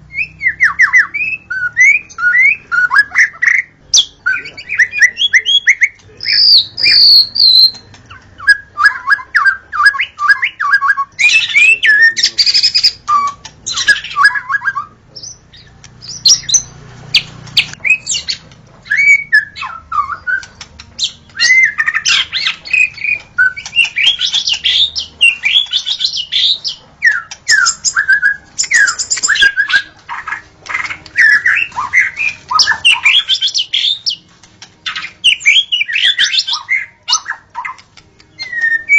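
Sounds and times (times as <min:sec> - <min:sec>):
bird singing whistles and chatter: 0:00.0 - 0:34.2, 0:34.8 - 0:38.9.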